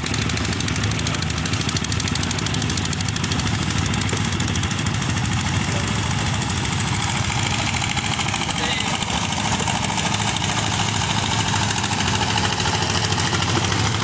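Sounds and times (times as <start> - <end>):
boat engine chugging: 0.0 - 14.0.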